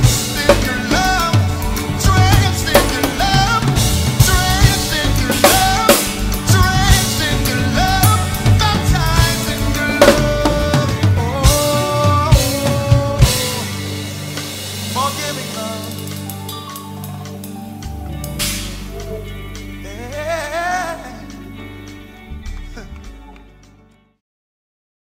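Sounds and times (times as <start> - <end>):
drum kit playing: 0.0 - 23.6
recorded gospel song: 0.0 - 24.0.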